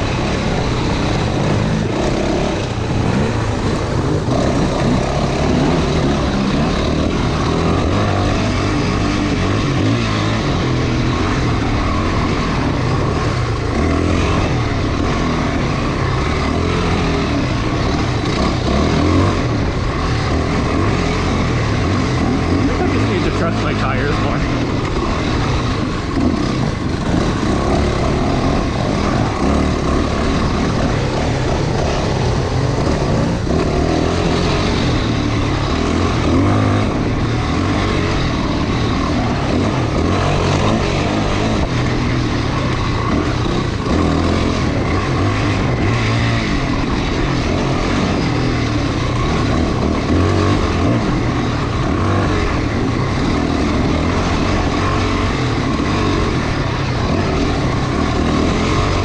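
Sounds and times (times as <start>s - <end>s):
dirt bike engine running: 0.0s - 59.0s
loud rushing noise: 0.0s - 59.0s.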